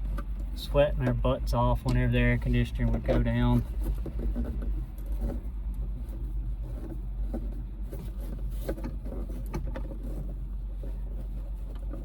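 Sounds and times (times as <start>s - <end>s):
light clicks and knocks: 0.0s - 12.0s
steady low hum: 0.0s - 12.0s.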